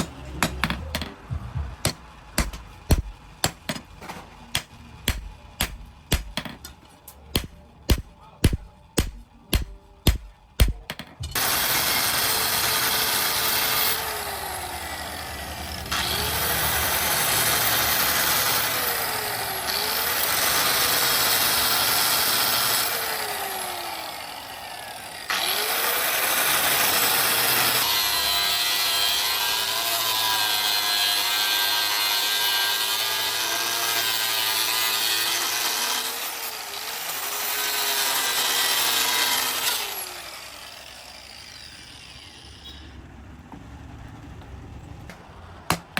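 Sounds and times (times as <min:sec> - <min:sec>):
power tool grinding: 0:00.0 - 0:01.2, 0:01.8 - 0:42.7.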